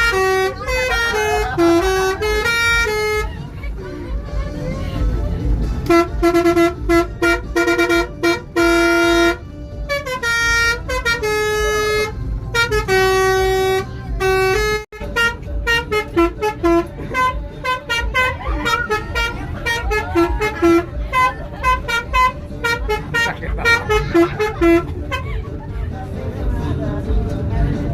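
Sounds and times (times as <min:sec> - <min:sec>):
musical air horn tune: 0:00.0 - 0:03.4, 0:05.8 - 0:25.3
low engine rumble: 0:00.0 - 0:27.9.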